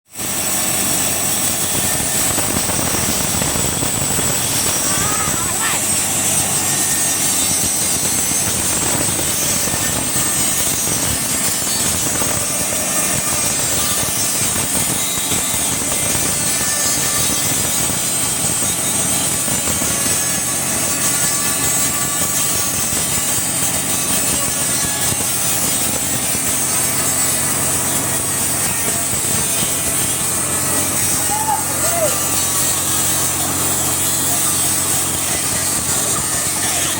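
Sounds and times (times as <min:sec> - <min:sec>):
sawmill saw cutting log: 0:00.1 - 0:36.9.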